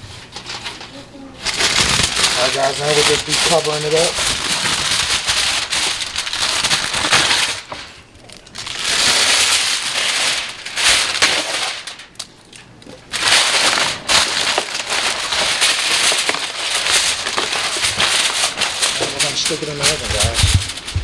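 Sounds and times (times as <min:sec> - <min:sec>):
aluminum foil crinkling: 0:00.2 - 0:21.0.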